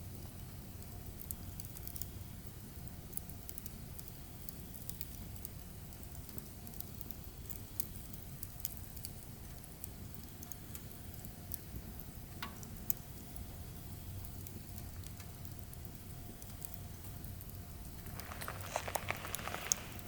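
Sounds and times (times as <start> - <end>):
firewood crackling and popping: 0.0 - 20.0
low fire rumble: 0.0 - 20.0.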